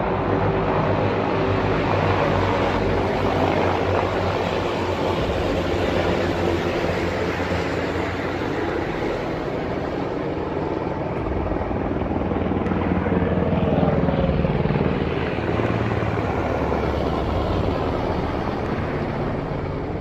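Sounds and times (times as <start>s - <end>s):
helicopters flying low overhead: 0.0s - 20.0s.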